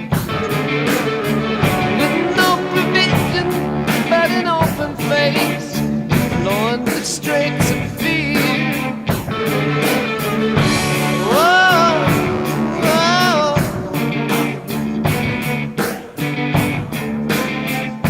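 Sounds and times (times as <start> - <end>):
guitar lead bending pitch: 0.0 - 6.8, 8.6 - 18.0
rock music: 0.0 - 18.0.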